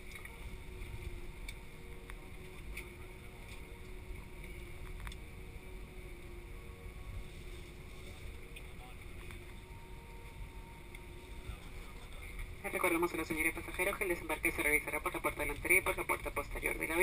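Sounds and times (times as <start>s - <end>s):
aircraft cabin rumble: 0.0s - 17.0s
faint steady hum: 0.0s - 17.0s.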